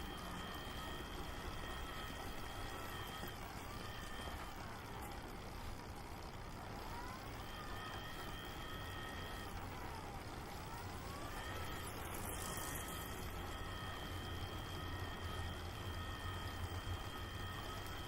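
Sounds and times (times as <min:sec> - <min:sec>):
street noise: 0:00.0 - 0:17.0
distant wailing siren: 0:00.0 - 0:18.0
faint high-pitched tone: 0:00.0 - 0:18.0.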